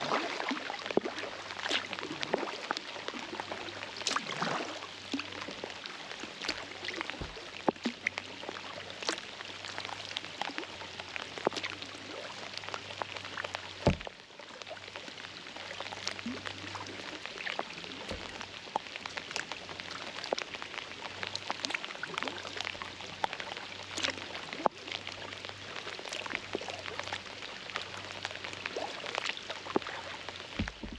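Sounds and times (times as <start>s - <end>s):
rain falling on river: 0.0s - 30.9s.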